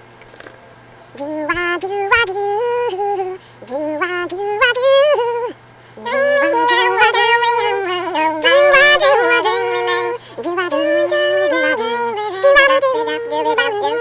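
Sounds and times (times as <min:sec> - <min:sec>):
faint steady hum: 0:00.0 - 0:14.0
person singing wordless notes: 0:01.2 - 0:14.0.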